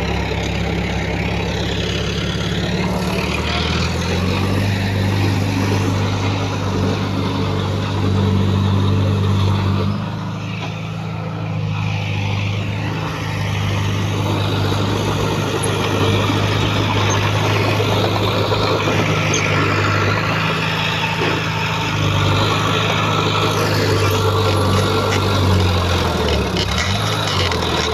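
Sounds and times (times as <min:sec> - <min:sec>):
diesel engine running under load: 0:00.0 - 0:27.9.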